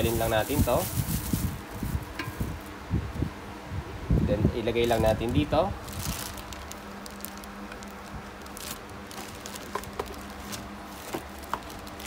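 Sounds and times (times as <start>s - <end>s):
plastic packaging rustling: 0.0s - 2.8s, 4.8s - 12.0s.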